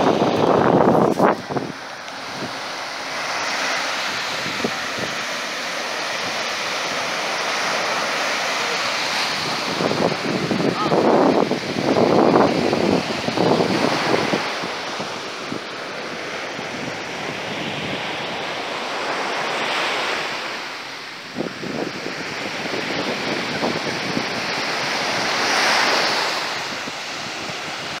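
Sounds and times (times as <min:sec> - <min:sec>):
sea waves washing onto sand: 0:00.0 - 0:28.0
wind rumbling on microphone: 0:00.0 - 0:28.0.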